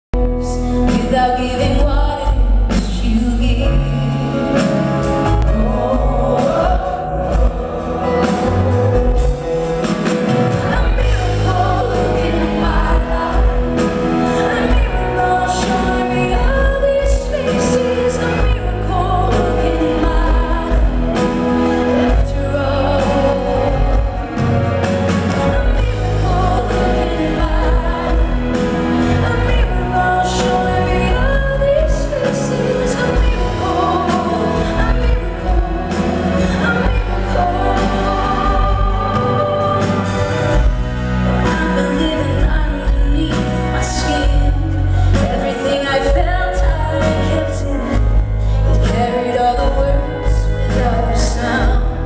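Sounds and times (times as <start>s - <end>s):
band with heavy bass: 0.1s - 52.0s
woman singing into microphone: 0.2s - 52.0s.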